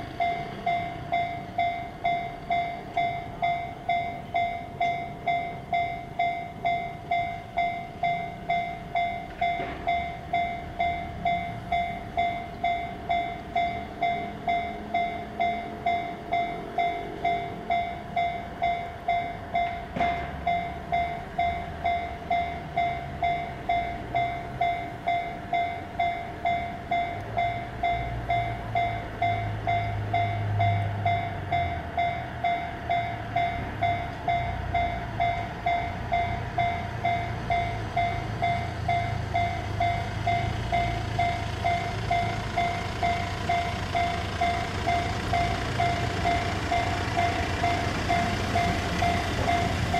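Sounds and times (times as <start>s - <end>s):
level crossing alarm ringing: 0.0s - 49.9s.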